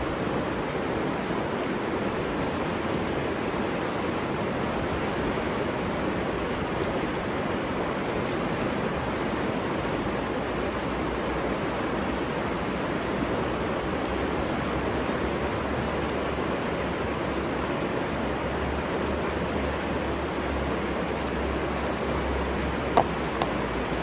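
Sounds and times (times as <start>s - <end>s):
river rushing water: 0.0s - 24.0s.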